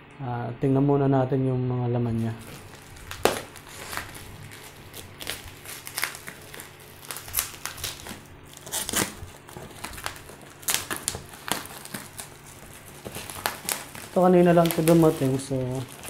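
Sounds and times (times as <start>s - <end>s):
bubble wrap crackling: 2.1s - 16.0s.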